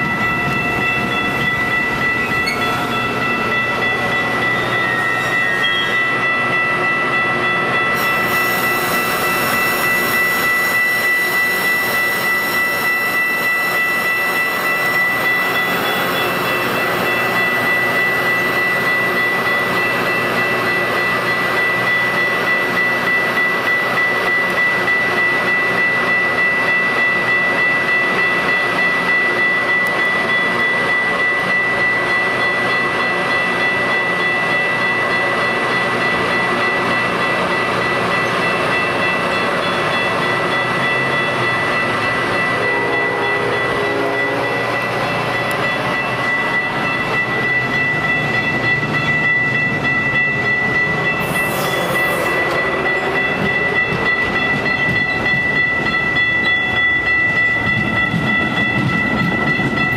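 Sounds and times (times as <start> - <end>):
high ringing tone: 0.0 - 59.9
train wheels on rails: 0.0 - 59.9.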